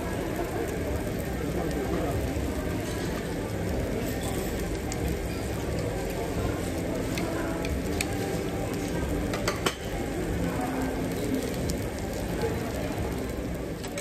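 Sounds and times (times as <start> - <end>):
meat sizzling on a grill: 0.0 - 14.0
restaurant noise: 0.0 - 14.0.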